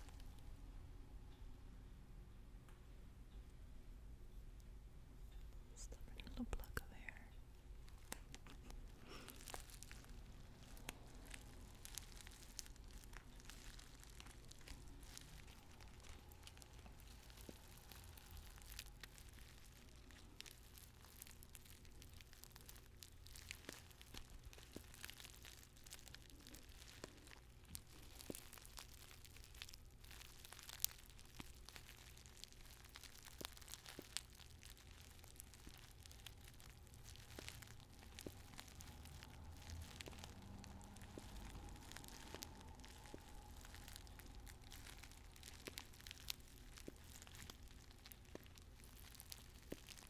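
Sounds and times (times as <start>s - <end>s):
paper tea bag crinkling: 0.0s - 0.4s, 7.8s - 50.0s.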